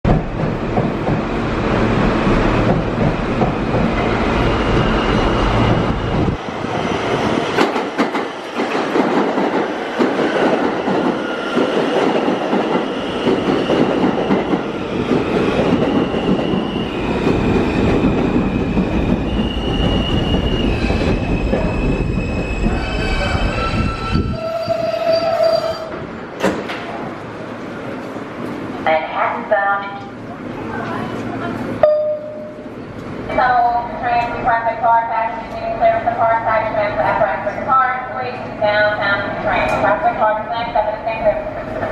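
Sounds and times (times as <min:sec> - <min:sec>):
subway wheels rumbling on rail: 0:00.0 - 0:41.9.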